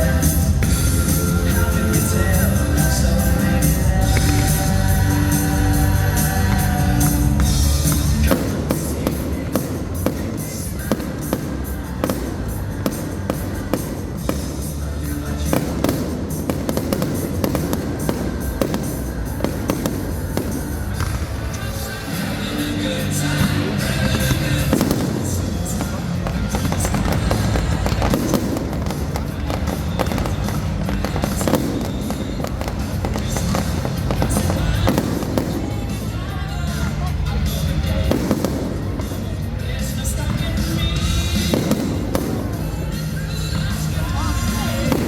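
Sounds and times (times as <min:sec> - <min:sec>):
fireworks bursting and crackling: 0:00.0 - 0:45.0
loud music with steady beat: 0:00.0 - 0:45.0.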